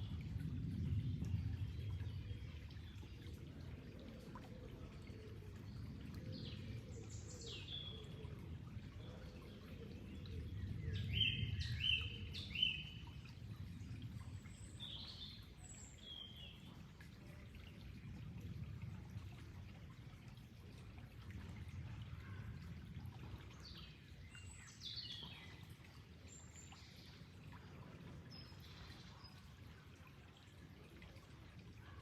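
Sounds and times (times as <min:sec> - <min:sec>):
flowing water rushing: 0:00.0 - 0:32.0.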